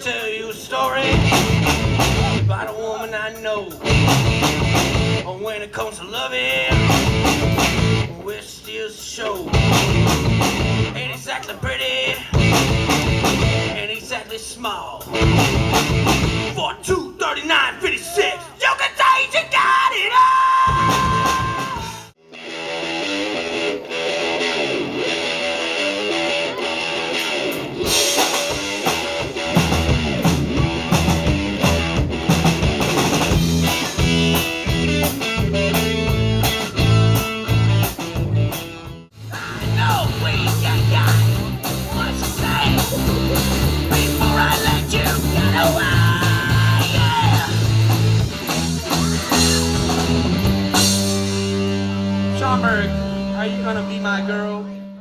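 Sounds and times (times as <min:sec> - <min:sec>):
rock song with heavy bass: 0:00.0 - 0:16.9, 0:20.6 - 0:54.6
rock band playing: 0:00.0 - 0:17.0, 0:20.6 - 0:55.0.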